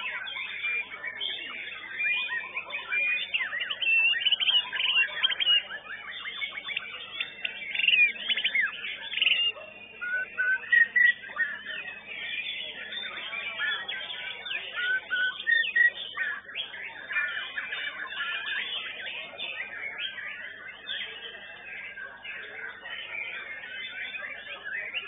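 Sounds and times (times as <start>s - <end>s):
birds chirping trilling and whistling: 0.0s - 25.0s.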